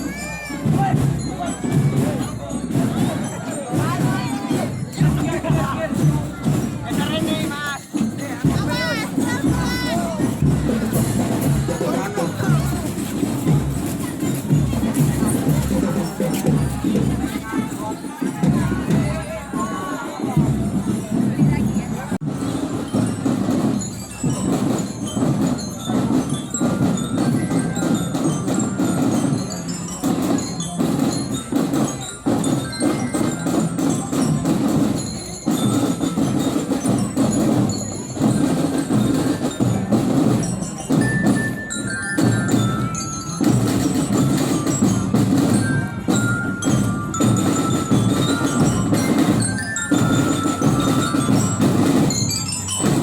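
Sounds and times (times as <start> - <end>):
glockenspiel melody: 0.0 - 53.0
marching drums: 0.0 - 53.0.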